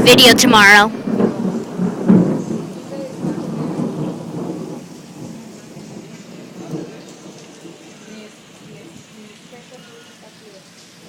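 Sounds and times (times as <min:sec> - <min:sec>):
thunder rumbling: 0:00.0 - 0:09.8
rain hissing: 0:00.0 - 0:11.0.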